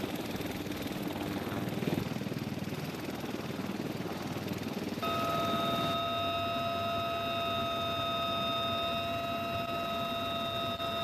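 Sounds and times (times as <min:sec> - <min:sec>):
helicopter rotor chopping: 0:00.0 - 0:11.0
turbine engine whine: 0:00.0 - 0:11.0.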